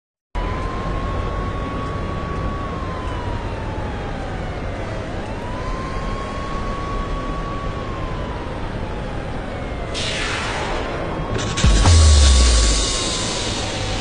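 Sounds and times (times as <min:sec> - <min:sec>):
low traffic rumble: 0:00.4 - 0:14.0
siren wailing: 0:00.4 - 0:14.0.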